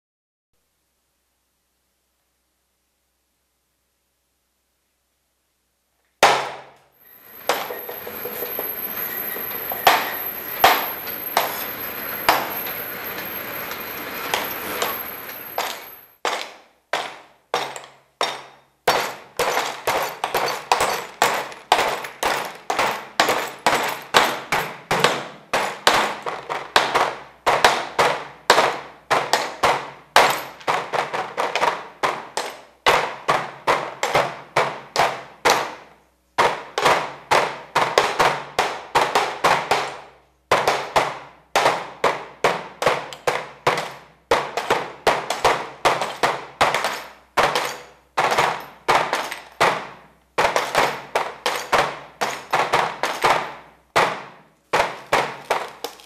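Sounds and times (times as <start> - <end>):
hammer striking glass: 6.2 - 35.8, 36.4 - 56.0.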